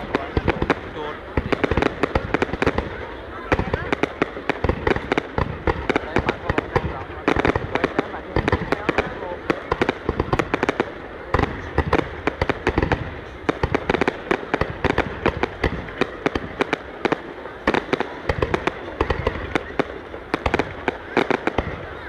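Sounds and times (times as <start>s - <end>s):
fireworks bangs and cracks: 0.0s - 22.0s.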